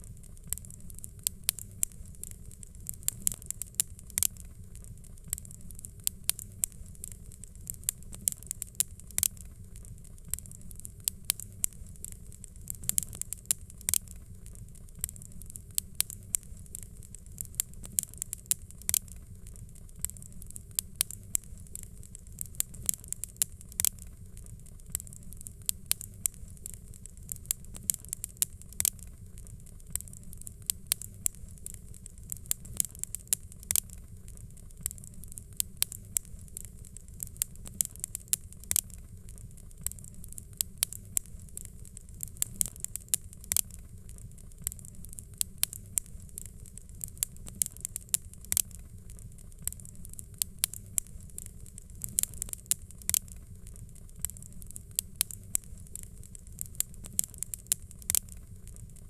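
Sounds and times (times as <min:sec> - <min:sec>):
fire crackling and popping: 0:00.0 - 0:59.0
rumble and hiss of burning: 0:00.0 - 0:59.0.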